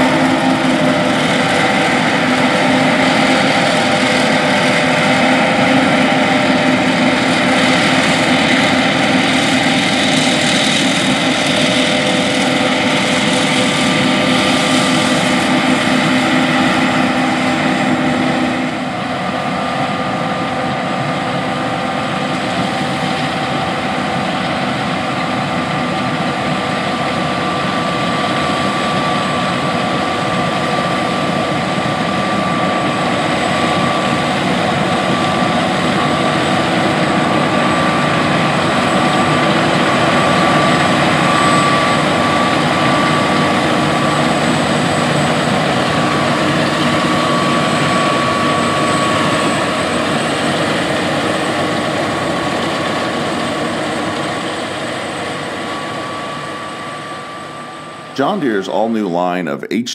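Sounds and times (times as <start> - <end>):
combine harvester machinery rumbling: 0.0 - 58.6
high whine: 0.0 - 59.9.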